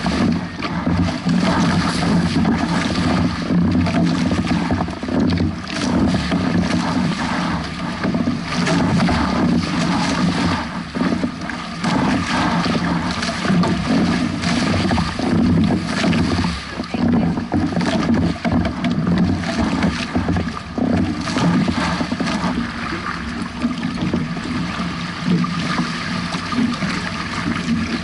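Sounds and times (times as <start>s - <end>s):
water splashing against boat hull: 0.0s - 28.0s
wind noise on microphone: 0.0s - 28.0s.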